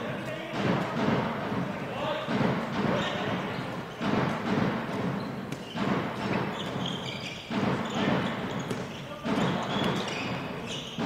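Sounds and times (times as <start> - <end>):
crowd noise in sports hall: 0.0 - 11.0
ball bouncing on court floor: 0.1 - 11.0.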